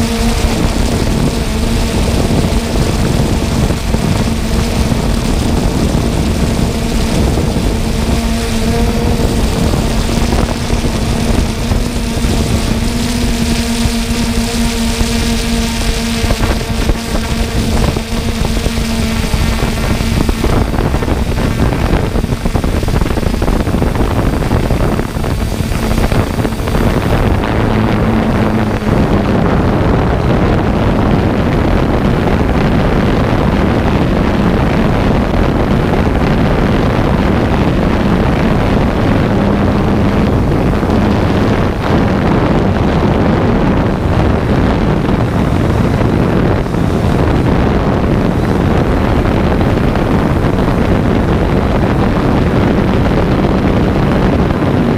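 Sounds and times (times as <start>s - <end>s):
drone motors humming: 0.0s - 54.9s
wind on microphone: 0.0s - 54.9s.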